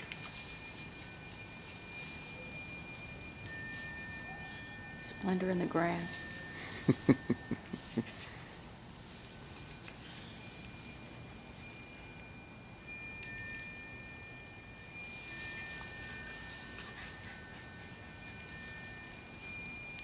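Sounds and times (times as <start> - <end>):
metal wind chimes ringing: 0.0 - 8.5, 9.1 - 20.0.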